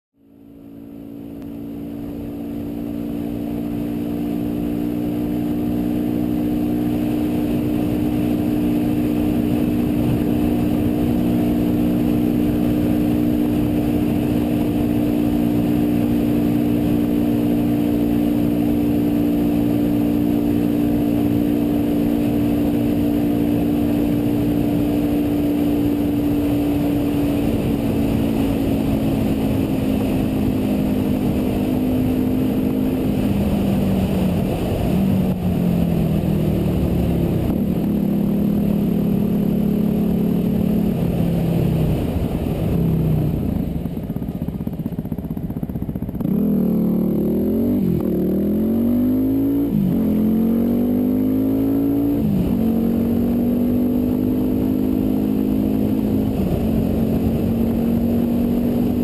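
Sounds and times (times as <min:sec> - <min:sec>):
motorcycle engine cruising: 0:00.2 - 0:59.0.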